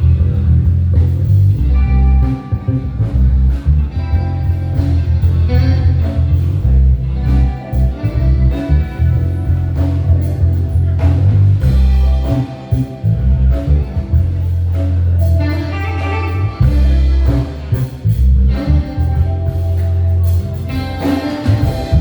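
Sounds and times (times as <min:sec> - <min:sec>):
electric bass low notes: 0:00.0 - 0:22.0
live band playing: 0:00.0 - 0:22.0.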